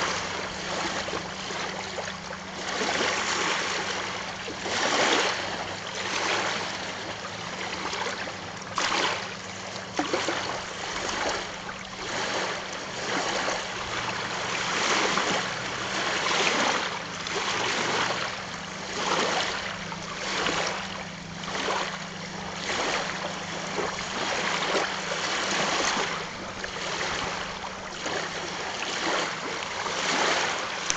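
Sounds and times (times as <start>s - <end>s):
small waves lapping on stones: 0.0s - 30.9s.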